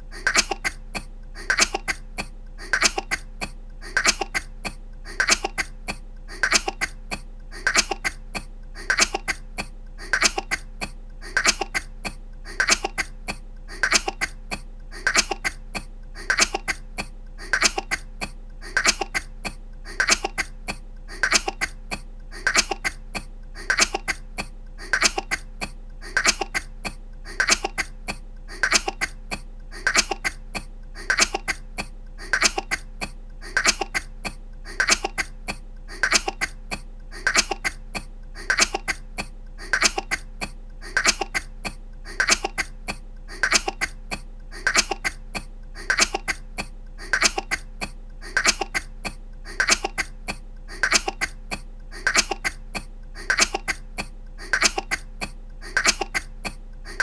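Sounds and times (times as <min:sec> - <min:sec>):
woman coughing: 0:00.1 - 0:57.0.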